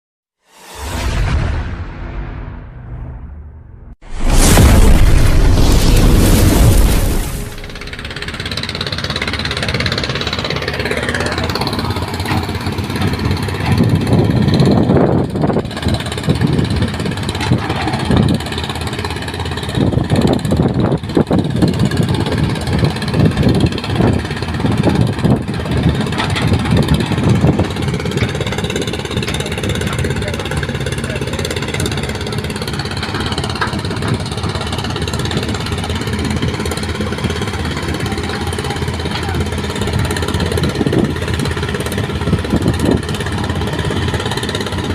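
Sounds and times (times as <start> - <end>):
excavator diesel engine working: 4.5 - 44.9.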